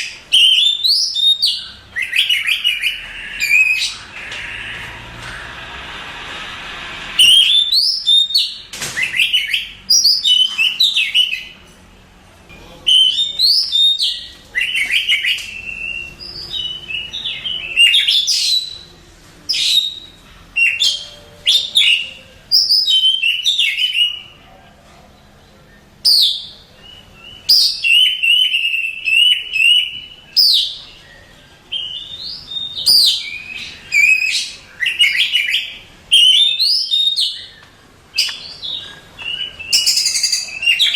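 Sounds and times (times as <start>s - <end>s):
songbird singing whistles and trills: 0.0s - 4.0s, 7.2s - 11.6s, 12.8s - 18.9s, 19.5s - 24.4s, 25.7s - 40.9s.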